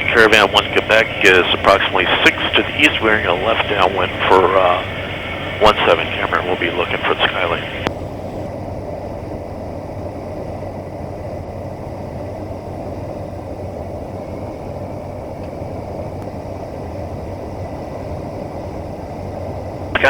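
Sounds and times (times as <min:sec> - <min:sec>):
faint high whine: 0:00.0 - 0:20.0
turboprop engine droning: 0:00.0 - 0:20.0.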